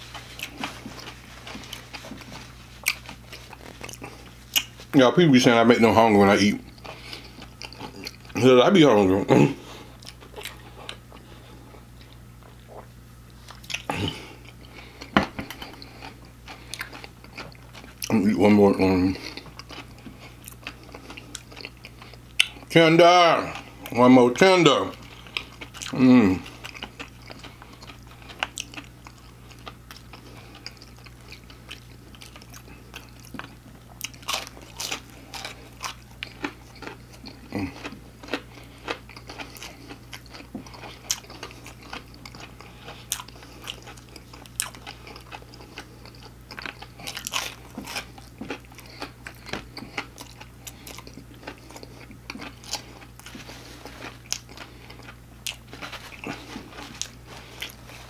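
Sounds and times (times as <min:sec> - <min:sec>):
crunchy chewing: 0:00.0 - 0:05.0, 0:06.6 - 0:08.4, 0:09.8 - 0:22.7, 0:24.9 - 0:58.0.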